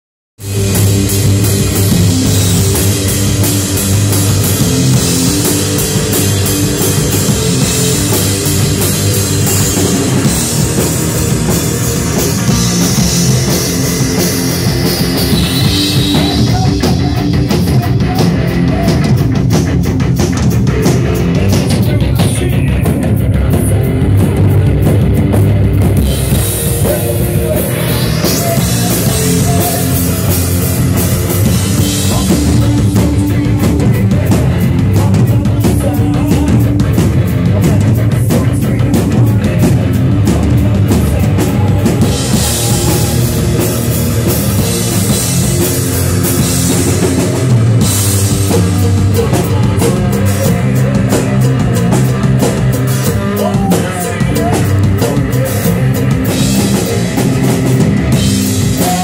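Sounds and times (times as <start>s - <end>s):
bass guitar: 0.4s - 59.0s
drum kit: 0.4s - 59.0s
electric guitar: 0.4s - 59.0s.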